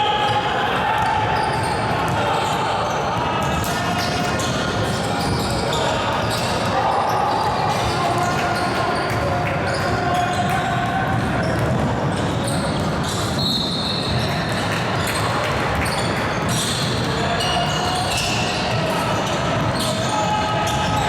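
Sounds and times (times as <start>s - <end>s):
chatter of voices in a hall: 0.0s - 21.0s.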